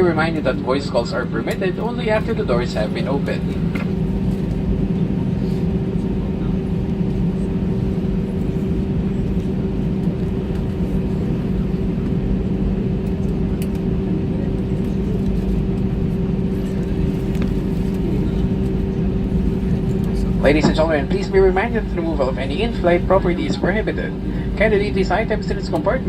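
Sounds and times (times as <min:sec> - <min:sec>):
aircraft cabin hum: 0:00.0 - 0:26.0.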